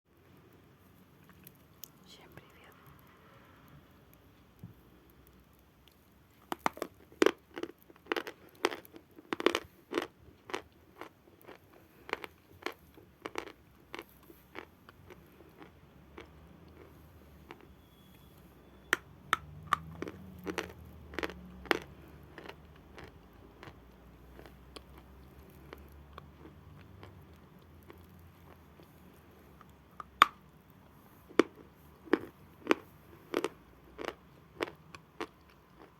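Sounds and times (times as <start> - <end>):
quiet chewing: 0.4 - 18.5, 19.4 - 35.9.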